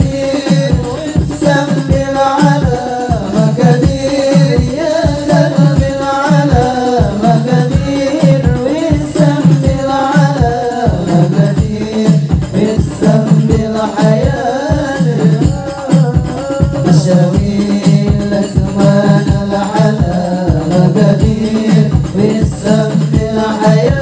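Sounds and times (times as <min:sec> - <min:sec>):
frame drums beating: 0:00.0 - 0:24.0
men singing together: 0:00.0 - 0:24.0.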